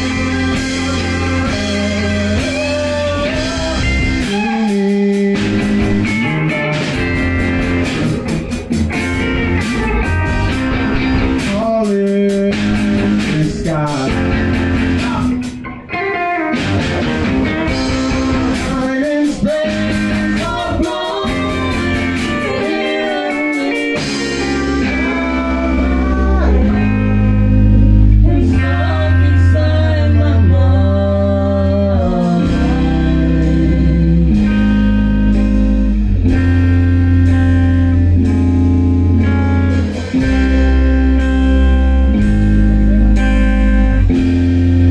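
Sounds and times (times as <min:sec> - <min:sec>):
band playing guitar-led music: 0:00.0 - 0:44.9
deep bass notes: 0:00.0 - 0:44.9.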